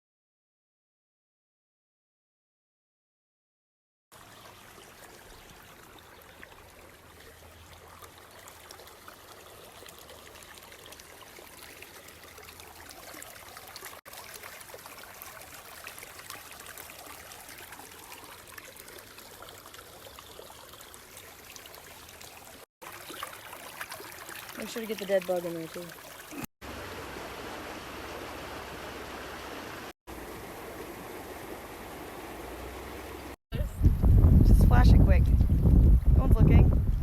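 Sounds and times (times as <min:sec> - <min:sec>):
stream water rushing and trickling: 0:04.1 - 0:34.9.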